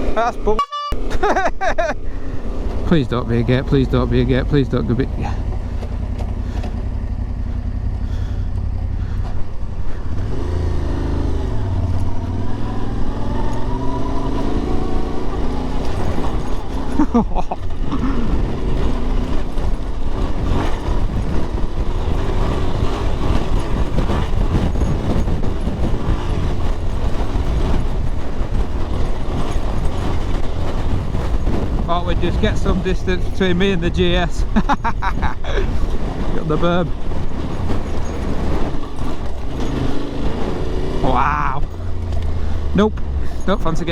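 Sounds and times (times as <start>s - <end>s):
motorcycle engine revving: 0.0s - 43.9s
wind noise: 0.0s - 43.9s.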